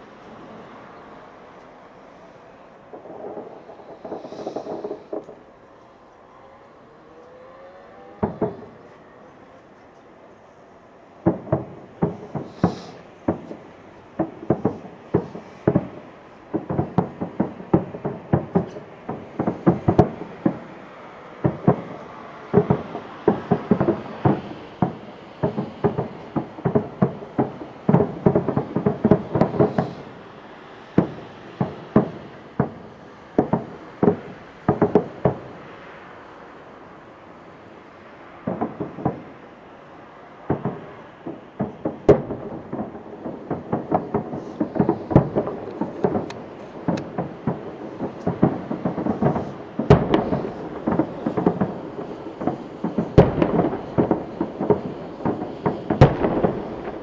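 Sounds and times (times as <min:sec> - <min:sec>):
fireworks bangs with echo: 0:00.0 - 0:06.0, 0:07.0 - 0:57.0
firework whistle: 0:00.0 - 0:09.6, 0:11.3 - 0:57.0.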